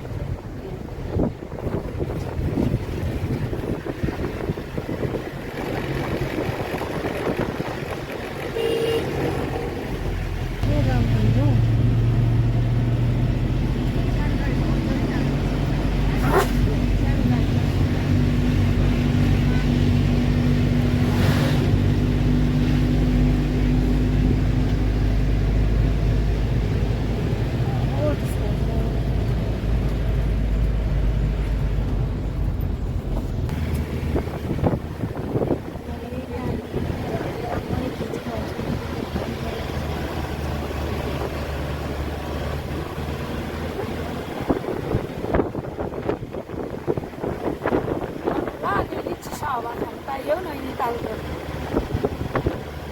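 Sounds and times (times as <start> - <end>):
vehicle engine and road drone: 0.0 - 52.9
wind noise on microphone: 0.0 - 52.9.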